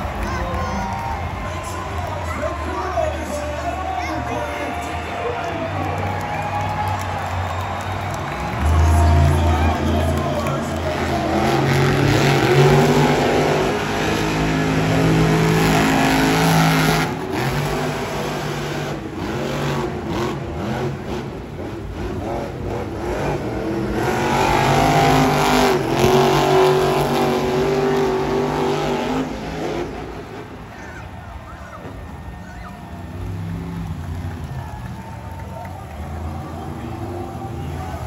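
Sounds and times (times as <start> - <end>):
truck engines revving: 0.0 - 38.0.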